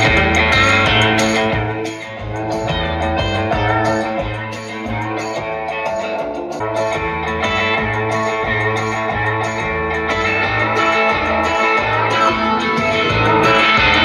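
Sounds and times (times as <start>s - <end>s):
guitar music: 0.0s - 14.0s
repeating bass line: 0.0s - 14.0s.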